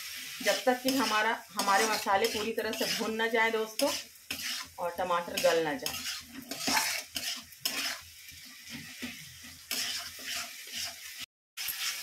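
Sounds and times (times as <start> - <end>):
paste sizzling: 0.0 - 12.0
spatula scraping a pan: 0.0 - 12.0.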